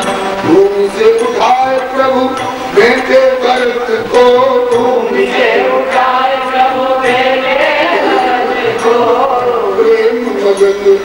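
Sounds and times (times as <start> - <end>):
devotional song with instruments: 0.0 - 11.0.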